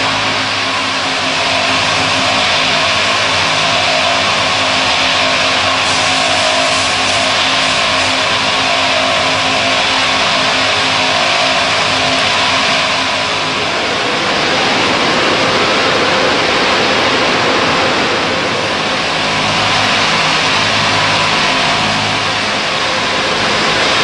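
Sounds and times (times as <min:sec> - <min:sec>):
car wash machinery rushing: 0:00.0 - 0:24.0
constant low hum: 0:00.0 - 0:24.0.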